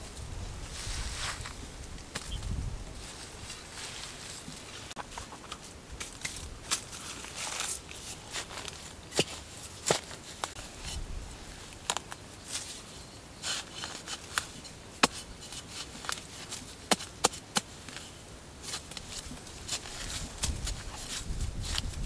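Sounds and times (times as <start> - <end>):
metal blade digging dry soil: 3.3 - 22.0.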